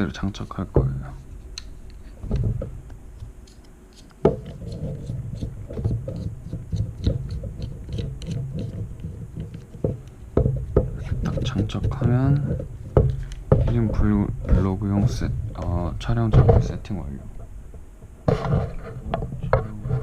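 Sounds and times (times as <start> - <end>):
handling rumble with clicks: 0.1 - 20.0.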